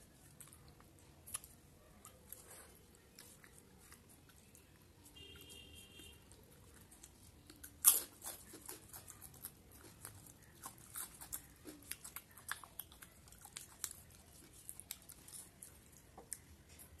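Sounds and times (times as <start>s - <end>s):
person chewing with crunches: 0.0s - 17.0s.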